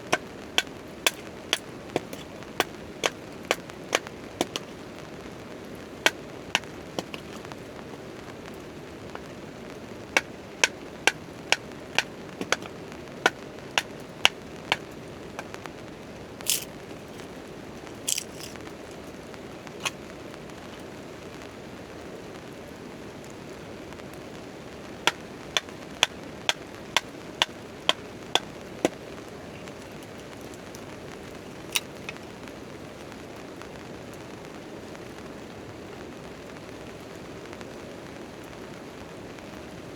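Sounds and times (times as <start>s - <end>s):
campfire hissing and popping: 0.0s - 39.9s
steady rain: 0.0s - 39.9s.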